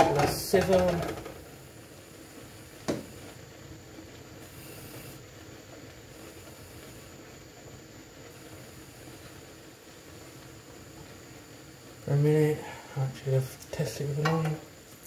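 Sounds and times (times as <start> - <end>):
gas burner hissing: 0.0 - 15.0.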